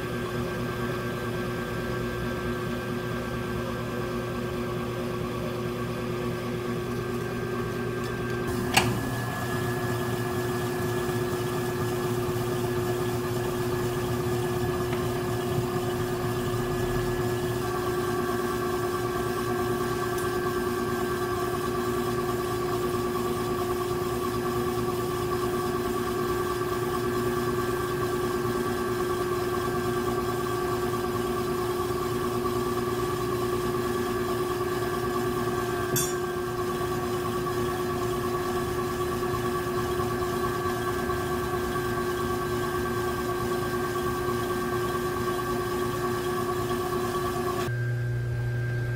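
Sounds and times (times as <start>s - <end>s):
potter's wheel motor humming: 0.0s - 48.9s.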